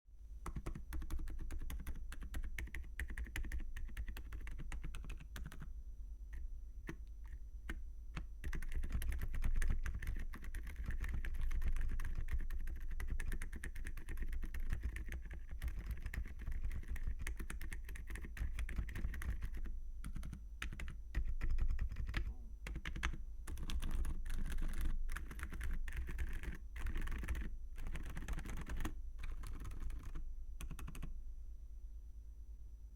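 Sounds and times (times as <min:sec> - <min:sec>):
soft keyboard typing: 0:00.4 - 0:05.7, 0:06.3 - 0:31.2.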